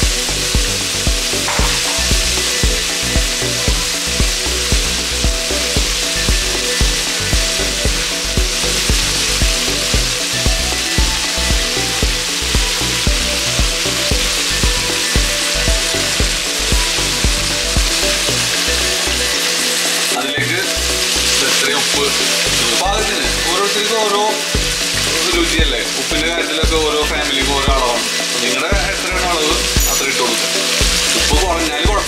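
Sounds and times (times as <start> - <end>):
background music with beat: 0.0 - 32.0
onions sizzling in oil: 0.0 - 32.0.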